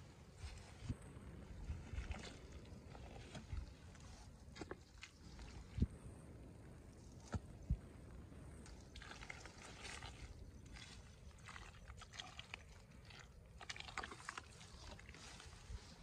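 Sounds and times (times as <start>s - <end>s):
hands squelching through wet mud: 0.3s - 5.9s, 8.4s - 16.0s.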